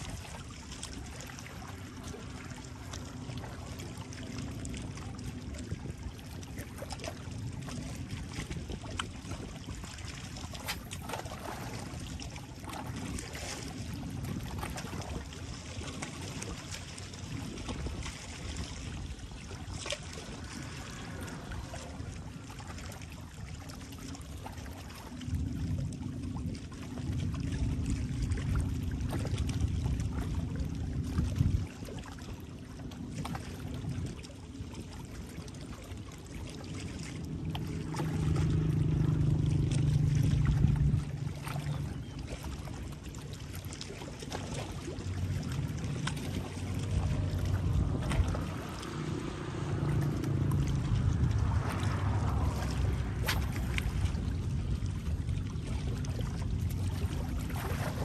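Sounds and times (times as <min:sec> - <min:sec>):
low rumbling noise: 0:00.0 - 0:58.0
sea water lapping at shoreline: 0:00.0 - 0:58.0.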